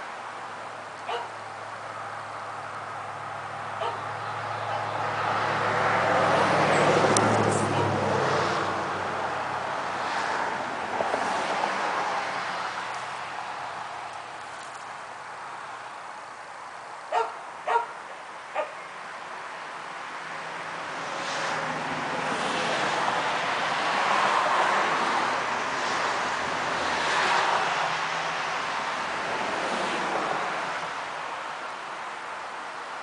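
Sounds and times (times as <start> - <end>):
wind through trees: 0.0 - 33.0.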